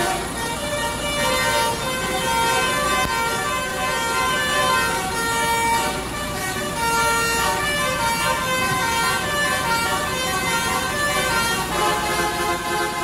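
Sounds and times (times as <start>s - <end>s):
low steady hum: 0.0s - 13.0s
multi-tone bus horn melody: 0.0s - 13.0s.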